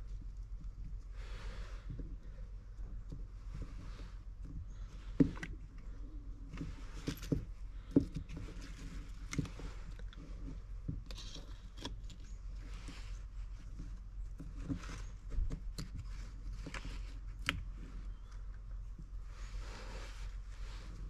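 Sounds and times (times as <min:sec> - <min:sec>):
steady low hum: 0:00.0 - 0:21.0
faint scraping: 0:01.0 - 0:21.0.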